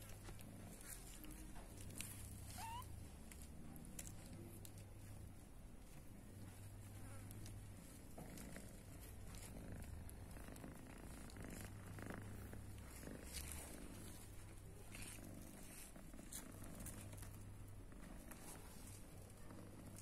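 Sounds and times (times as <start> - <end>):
cat purring: 0.0 - 20.0
scratchy rustles: 0.0 - 20.0.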